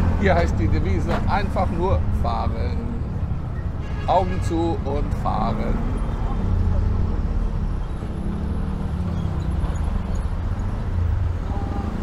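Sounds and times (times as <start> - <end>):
auto-rickshaw engine rumbling: 0.0 - 12.0.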